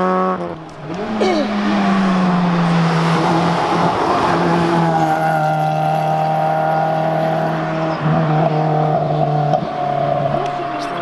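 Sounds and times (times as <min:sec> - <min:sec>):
race car engine at high revs: 0:00.0 - 0:11.0.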